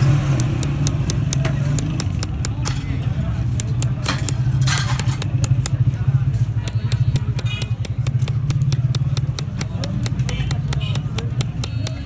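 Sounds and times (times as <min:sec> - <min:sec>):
hammer tapping metal punch: 0:00.4 - 0:02.6, 0:03.6 - 0:05.8, 0:06.7 - 0:12.0.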